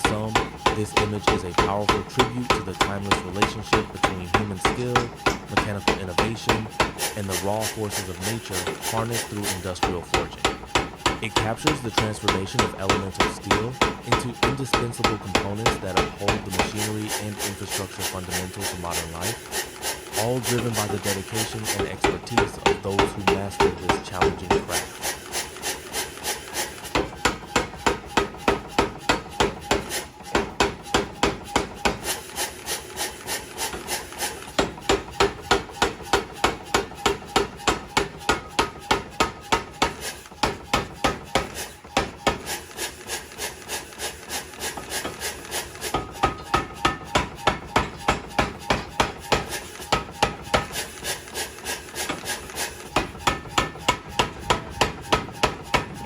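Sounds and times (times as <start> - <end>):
forging hammer striking: 0.0 - 56.0.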